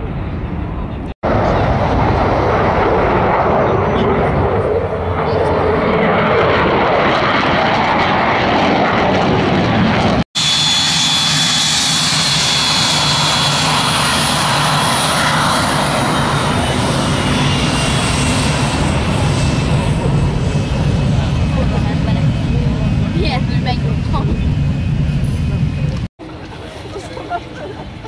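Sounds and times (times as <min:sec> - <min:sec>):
aircraft engine running: 0:00.0 - 0:28.0.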